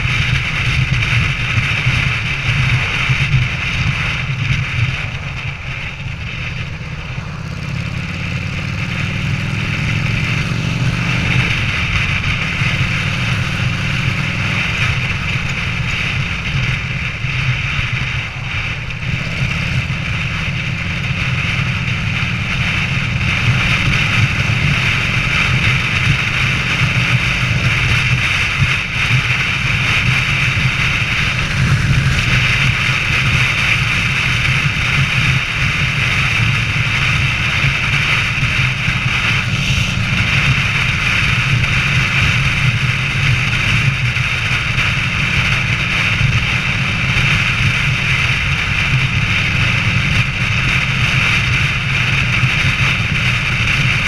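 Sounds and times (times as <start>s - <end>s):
motorcycle engine drone: 0.0s - 54.0s
wind noise on microphone: 0.0s - 54.0s.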